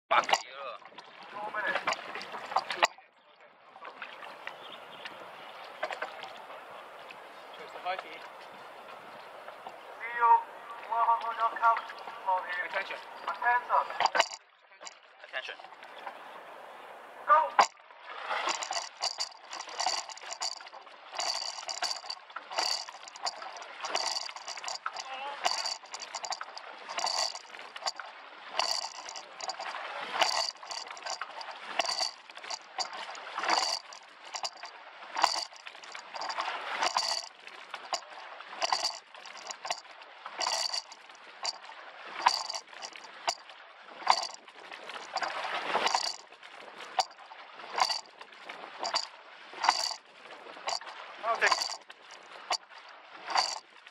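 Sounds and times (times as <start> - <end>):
oars clacking in oarlocks: 0.1 - 3.1, 3.8 - 16.4, 17.3 - 53.9
water rushing along hull: 0.1 - 53.9.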